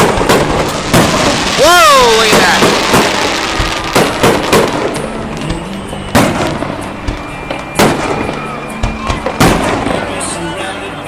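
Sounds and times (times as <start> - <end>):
fireworks popping: 0.0 - 10.4
fireworks booming: 0.0 - 10.7.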